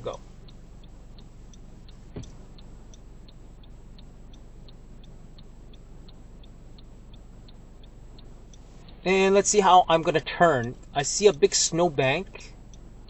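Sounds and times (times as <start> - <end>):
car engine idling hum: 0.0 - 13.0
turn signal clicking: 0.0 - 13.0.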